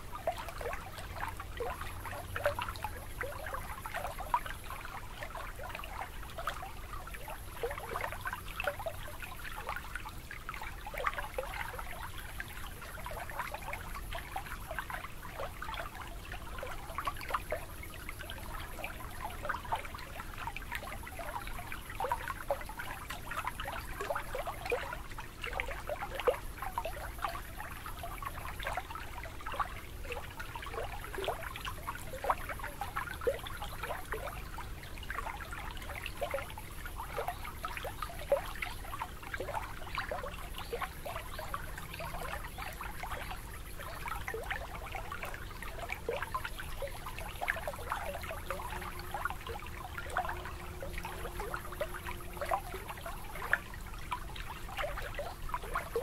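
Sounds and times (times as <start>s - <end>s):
shallow water lapping: 0.0s - 56.0s.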